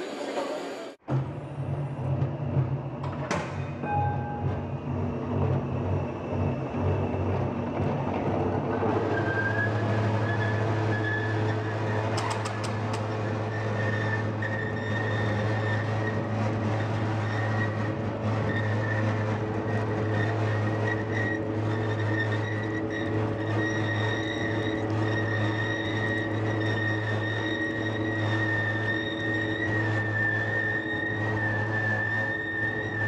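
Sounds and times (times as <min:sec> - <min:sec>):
forming machine humming and whining: 0:00.0 - 0:33.0.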